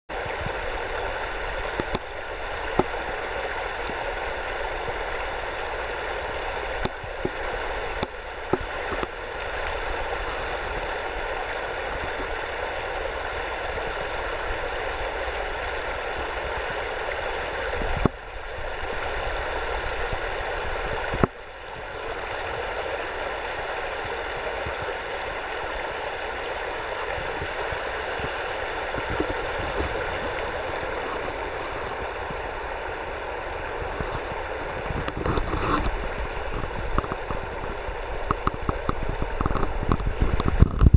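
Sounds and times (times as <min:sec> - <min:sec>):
running water rushing: 0:00.1 - 0:40.9.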